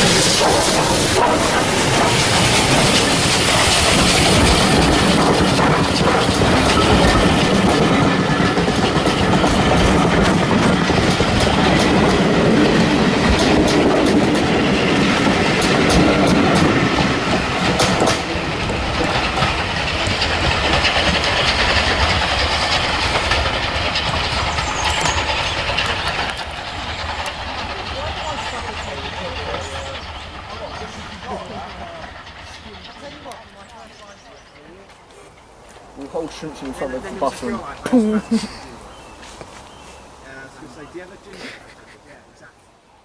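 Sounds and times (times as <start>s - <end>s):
train wheels clicking over rail joints: 0.0s - 42.8s
steam train passing: 0.0s - 43.0s.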